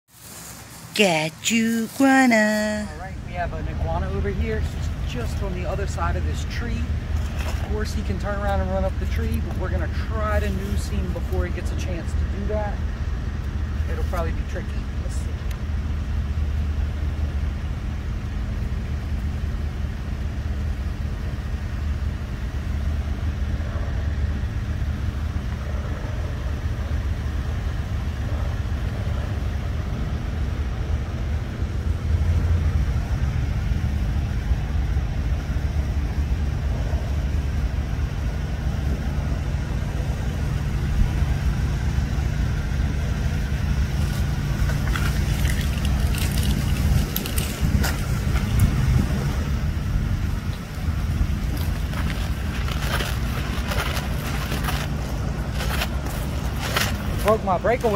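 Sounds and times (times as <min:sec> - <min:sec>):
engine running: 0:00.1 - 0:57.9.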